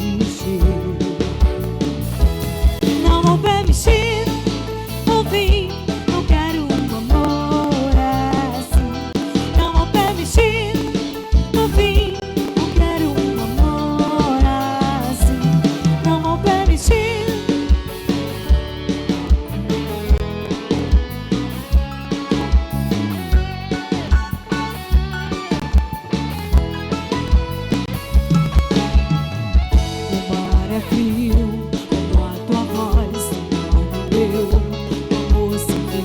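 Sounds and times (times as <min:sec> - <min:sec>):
wavering lead melody: 0:00.0 - 0:34.9
bass line: 0:00.0 - 0:36.0.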